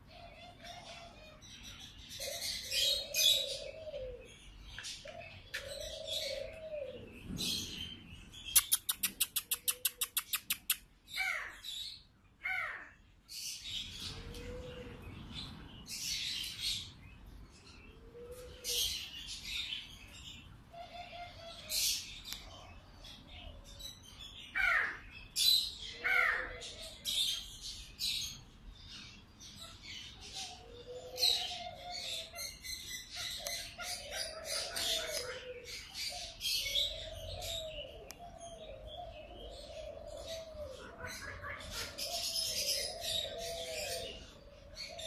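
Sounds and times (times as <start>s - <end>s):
birds calling: 0.0s - 45.0s.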